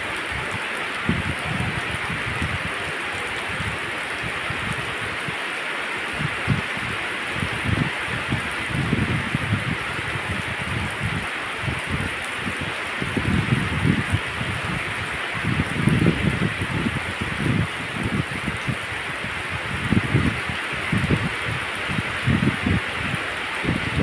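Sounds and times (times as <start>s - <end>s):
heavy rain on road: 0.0s - 24.0s.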